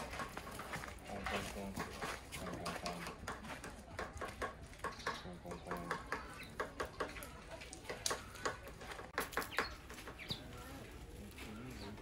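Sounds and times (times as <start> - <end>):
birds clucking calls: 0.0 - 12.0.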